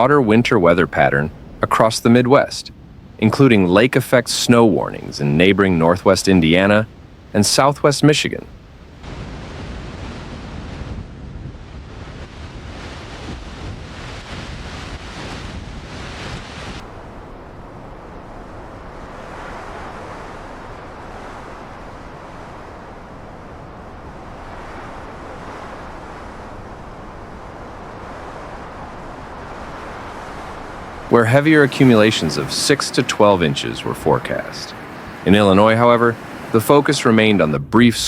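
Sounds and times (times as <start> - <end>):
wind buffeting microphone: 0.0 - 7.4, 8.3 - 38.0.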